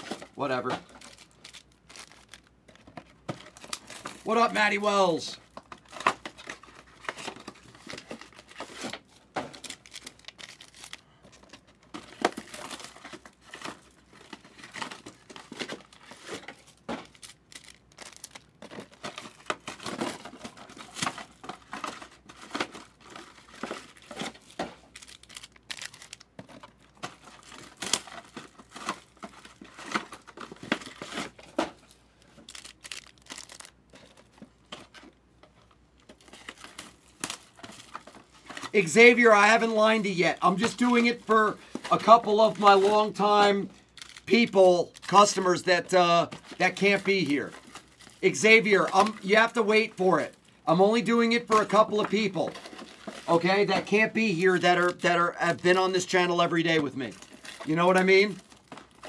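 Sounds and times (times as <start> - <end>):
foil wrappers tearing and crinkling: 0.0 - 34.4, 36.1 - 59.0.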